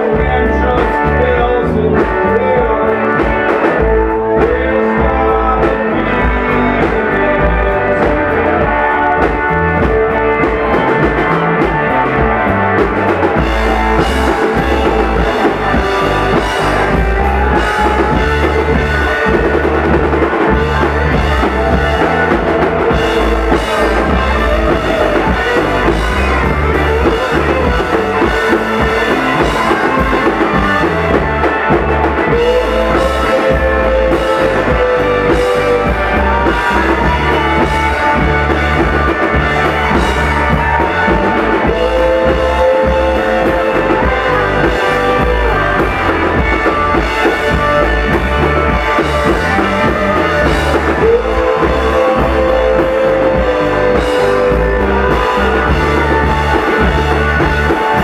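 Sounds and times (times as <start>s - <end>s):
bass: 0.0s - 58.0s
drum kit: 0.0s - 58.0s
electric guitars: 0.0s - 58.0s.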